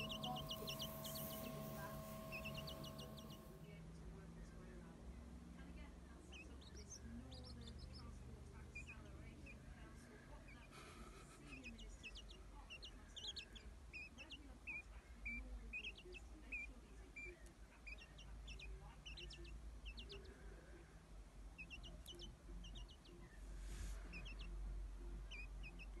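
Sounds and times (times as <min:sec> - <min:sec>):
quail chicks peeping: 0:00.0 - 0:03.6, 0:06.2 - 0:20.8, 0:21.4 - 0:26.0.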